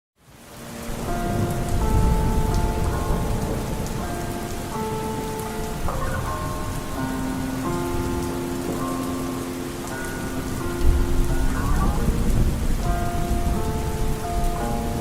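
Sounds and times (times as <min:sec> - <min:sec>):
steady rain: 0:00.2 - 0:15.0
slowed reverb song: 0:00.6 - 0:15.0
thunder rumbling: 0:00.8 - 0:15.0.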